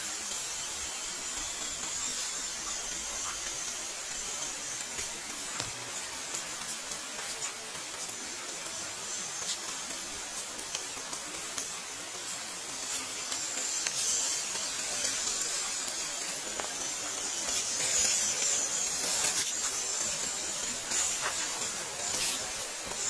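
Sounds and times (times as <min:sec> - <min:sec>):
toy car electric motor whirring: 0:00.0 - 0:23.0.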